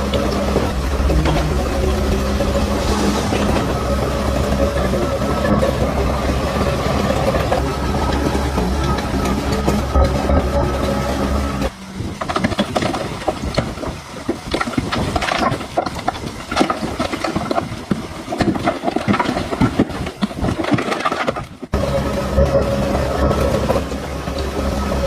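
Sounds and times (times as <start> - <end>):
bulldozer engine drone: 0.0 - 25.0
clanks rattles and crunching: 0.0 - 25.0.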